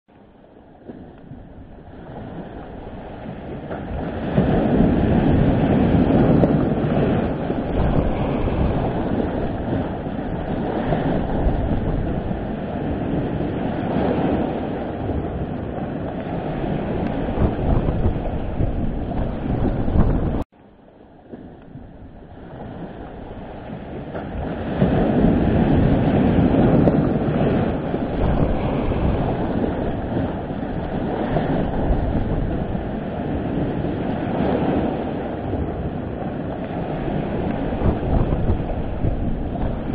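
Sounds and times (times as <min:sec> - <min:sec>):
wind buffeting microphone: 0:00.1 - 0:20.5, 0:21.1 - 0:39.9
storm waves breaking on seawall: 0:00.1 - 0:39.9.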